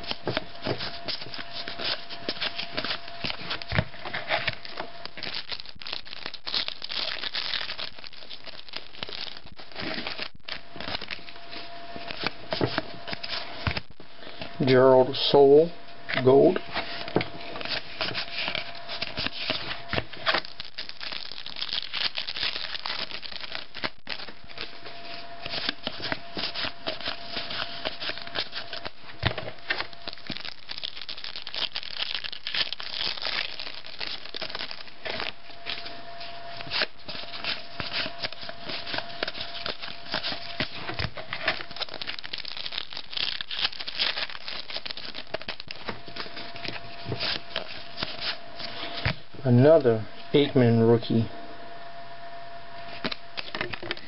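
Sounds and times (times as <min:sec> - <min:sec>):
cards rustling and flicking: 0:00.0 - 0:13.9, 0:16.7 - 0:49.2
wrappers crinkling and tearing: 0:00.0 - 0:14.0, 0:16.8 - 0:49.1
faint steady hum: 0:00.0 - 0:54.0.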